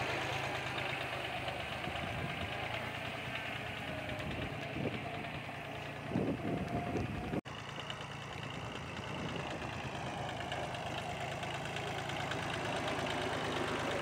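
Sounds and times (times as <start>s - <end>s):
diesel tractor engine chugging: 0.0s - 14.0s.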